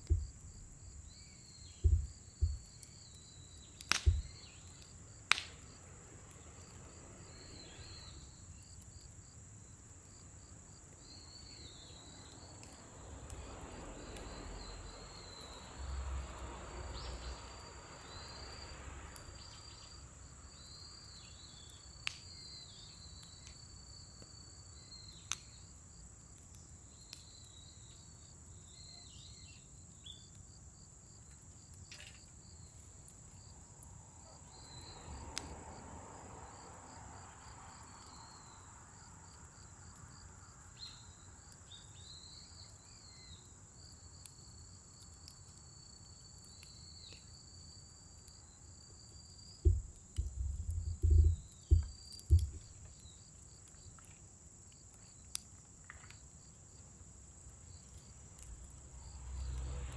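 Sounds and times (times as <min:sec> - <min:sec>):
fire crackling and popping: 0:00.0 - 0:59.9
insect trill: 0:00.0 - 0:59.9.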